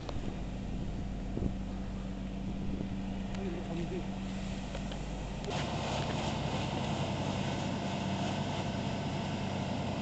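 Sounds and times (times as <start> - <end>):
engine hum: 0.0 - 10.0.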